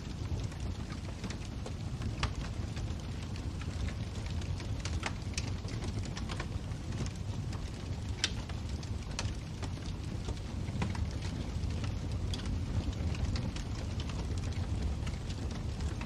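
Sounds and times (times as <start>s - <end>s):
fire crackles and pops: 0.0s - 16.0s
low fire rumble: 0.0s - 16.0s.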